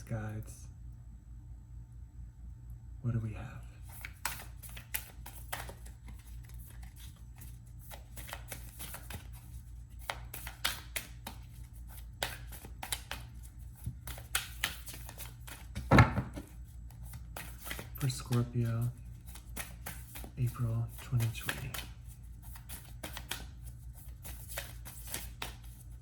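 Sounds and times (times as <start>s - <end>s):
steady low hum: 0.0s - 26.0s
cards being shuffled: 3.8s - 26.0s.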